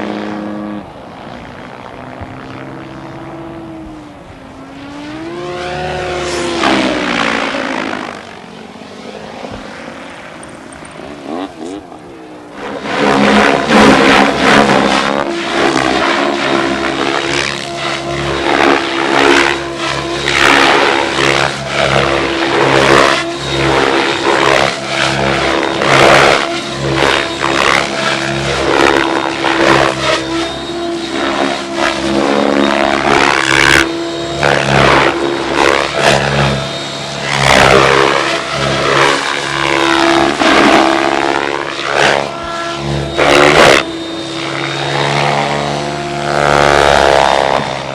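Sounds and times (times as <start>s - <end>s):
rc helicopter rotor and motor whine: 0.0s - 47.9s.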